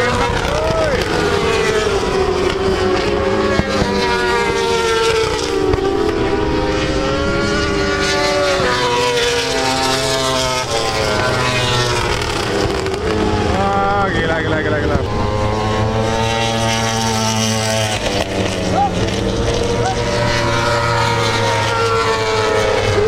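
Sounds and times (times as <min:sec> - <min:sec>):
racing motorcycles passing: 0:00.0 - 0:23.0.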